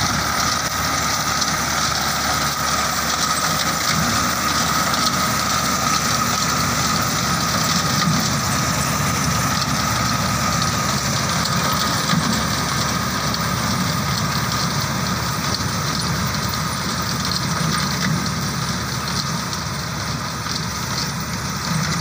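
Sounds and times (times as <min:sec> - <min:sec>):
reaper binder engine: 0:00.0 - 0:22.0.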